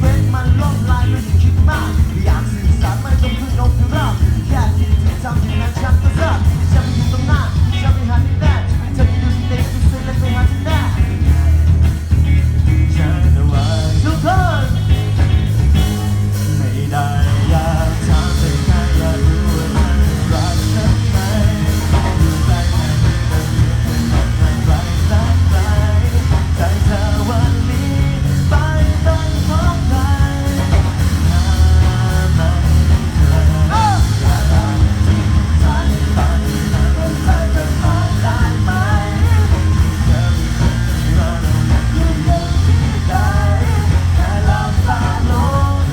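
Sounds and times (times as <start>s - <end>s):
person singing: 0.0s - 45.9s
rock band playing: 0.0s - 45.9s.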